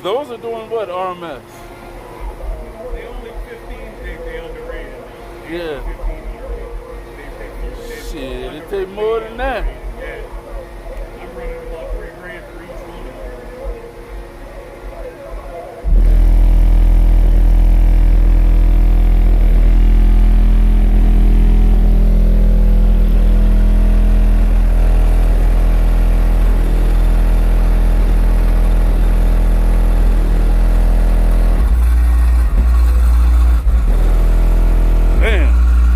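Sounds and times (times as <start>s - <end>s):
deep bass from subwoofers: 1.5s - 35.9s.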